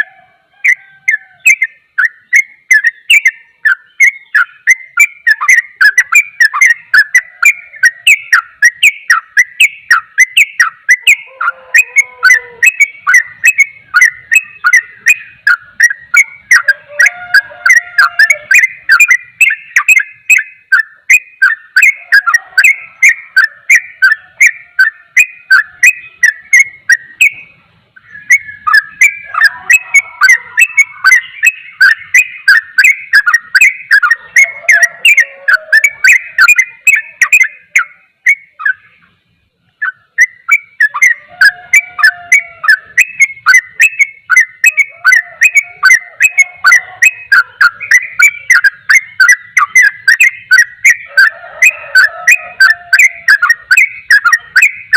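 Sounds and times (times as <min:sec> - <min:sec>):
bird singing sharp chirping notes: 0:00.0 - 0:54.9.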